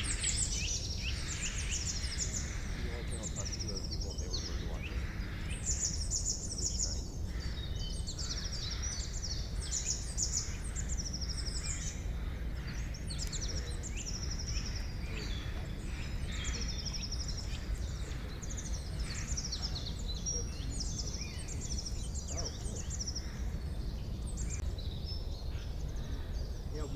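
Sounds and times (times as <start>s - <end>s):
songbirds singing: 0.0s - 26.9s.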